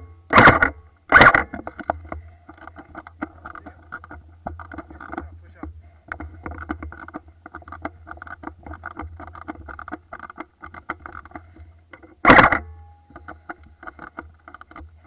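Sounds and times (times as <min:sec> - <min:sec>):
gear rattling: 0:00.3 - 0:15.0.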